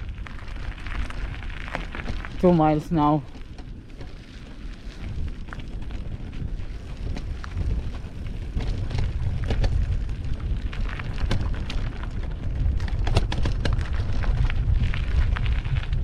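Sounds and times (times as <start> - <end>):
bike tyres clicking and rattling on stones: 0.0 - 16.0
wind buffeting microphone: 0.0 - 16.0.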